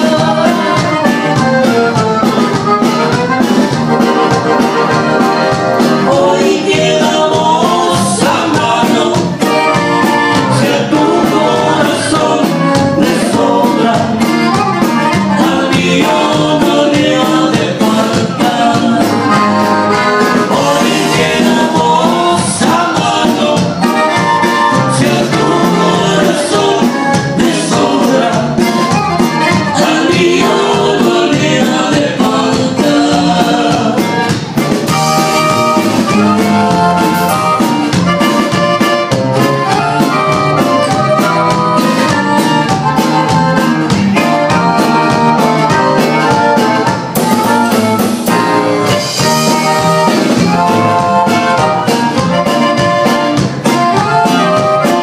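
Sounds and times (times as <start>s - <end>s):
accordion melody: 0.0s - 55.0s
band playing: 0.0s - 55.0s.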